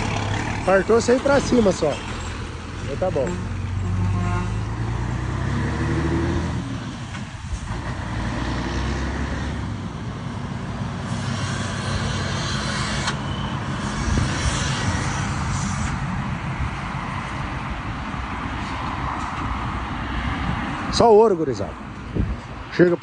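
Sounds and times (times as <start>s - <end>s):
diesel truck engine rumble: 0.0s - 23.0s.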